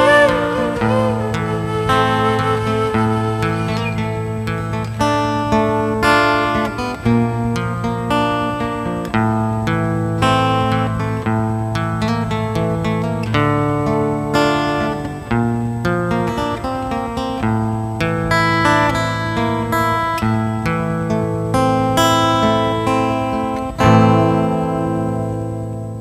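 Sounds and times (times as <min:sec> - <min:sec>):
plucked string instrument melody: 0:00.0 - 0:26.0.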